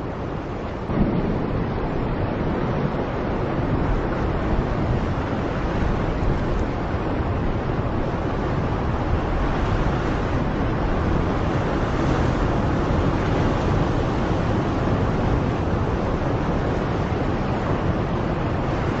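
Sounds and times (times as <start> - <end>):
surf rushing: 0.0 - 19.0
wind on shore: 0.0 - 19.0.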